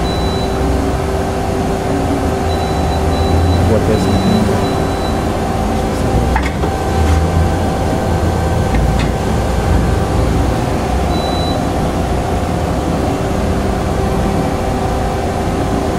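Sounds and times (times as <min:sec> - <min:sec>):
lathe mechanical hum: 0:00.0 - 0:15.9
whining tones: 0:00.0 - 0:15.9.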